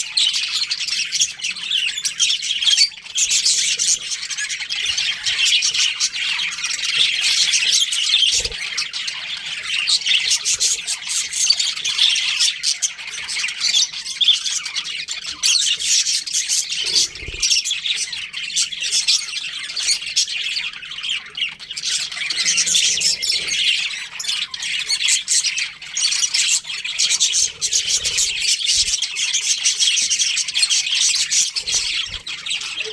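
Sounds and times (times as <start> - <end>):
budgerigars chattering and chirping: 0.0 - 32.9.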